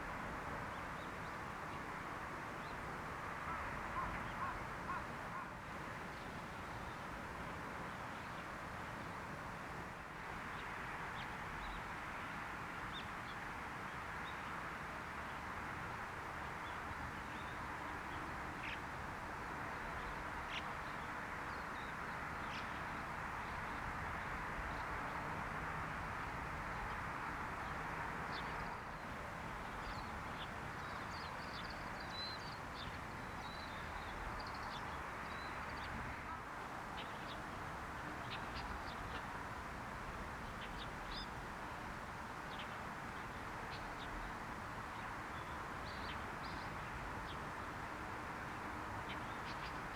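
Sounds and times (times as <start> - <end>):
outdoor background hiss: 0.0 - 49.9.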